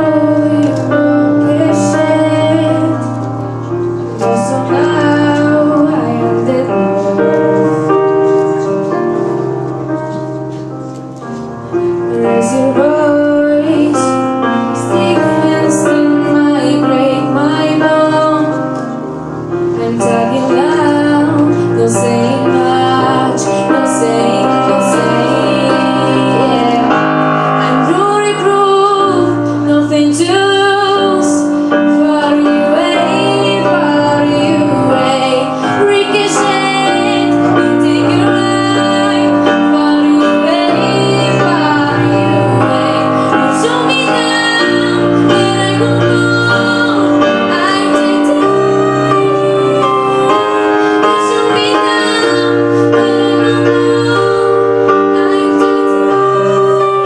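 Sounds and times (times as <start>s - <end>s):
girl singing through microphone: 0.0s - 57.0s
piano accompaniment: 0.0s - 57.0s.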